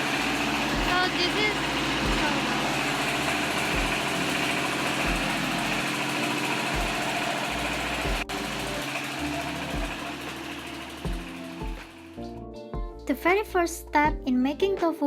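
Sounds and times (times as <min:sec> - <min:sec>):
factory machinery running loudly: 0:00.0 - 0:12.2.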